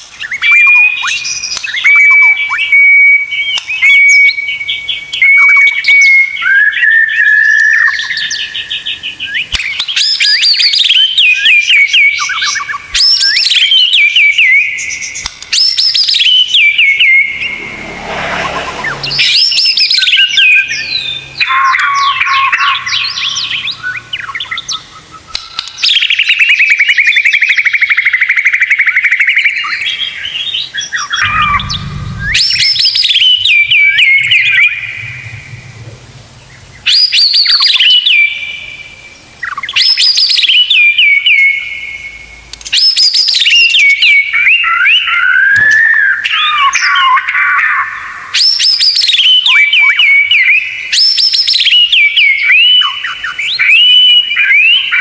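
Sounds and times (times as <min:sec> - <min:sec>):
songbird whistling song: 0:00.0 - 0:17.6, 0:18.8 - 0:35.6, 0:36.4 - 0:55.0.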